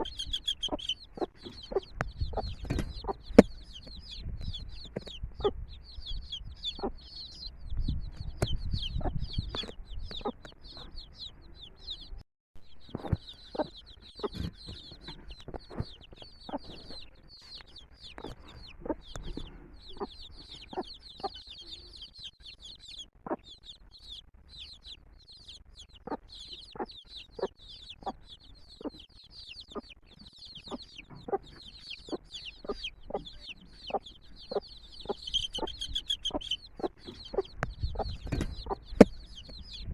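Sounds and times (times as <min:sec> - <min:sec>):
hen clucking: 0:00.0 - 0:12.1, 0:12.8 - 0:39.9
chicks peeping: 0:00.0 - 0:39.9.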